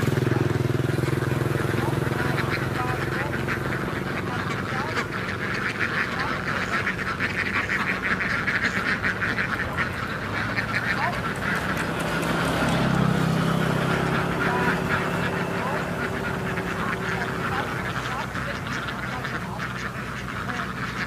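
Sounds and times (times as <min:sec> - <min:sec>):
flock of ducks quacking: 0:00.0 - 0:21.0
low steady motor hum: 0:00.0 - 0:21.0.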